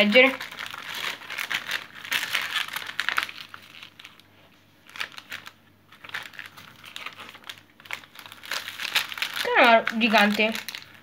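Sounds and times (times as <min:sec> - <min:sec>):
paper and foil crinkling: 0:00.0 - 0:11.0.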